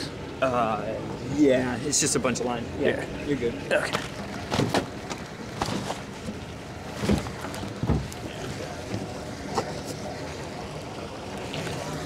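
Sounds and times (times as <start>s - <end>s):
outboard engines running: 0.0s - 12.0s.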